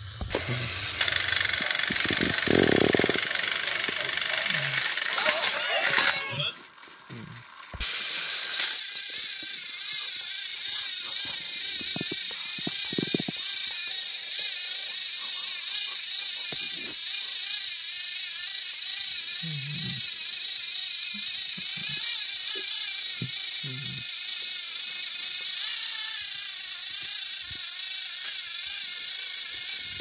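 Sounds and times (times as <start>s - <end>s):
toy train motors whirring: 0.0s - 30.0s.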